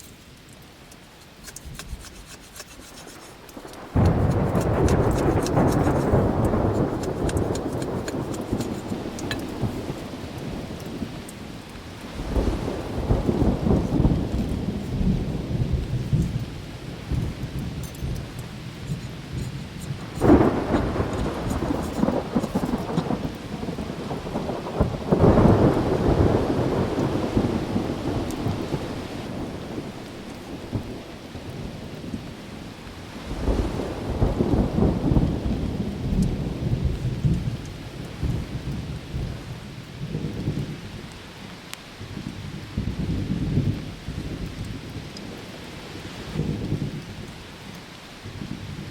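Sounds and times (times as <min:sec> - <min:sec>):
storm hiss: 0:00.0 - 0:48.9
low thunder rumbles: 0:03.0 - 0:41.1, 0:42.0 - 0:48.9.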